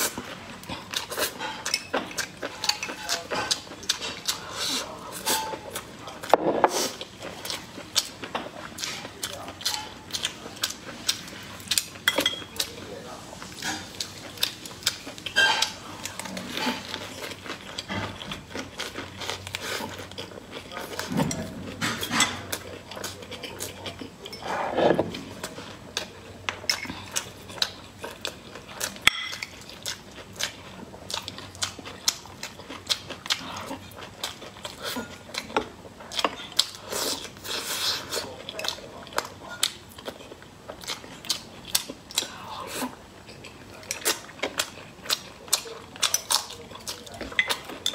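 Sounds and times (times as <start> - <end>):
chewing and crunching food: 0.0 - 47.9.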